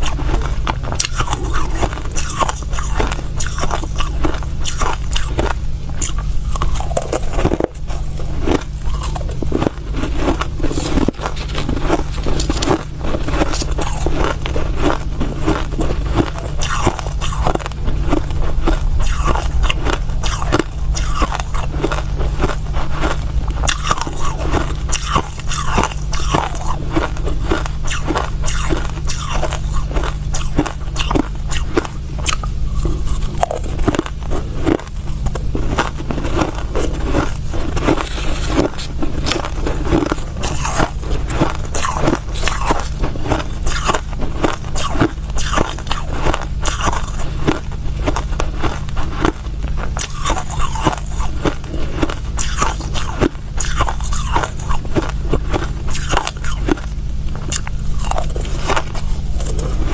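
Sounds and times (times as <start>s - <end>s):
chewing crushed ice: 0.0s - 59.9s.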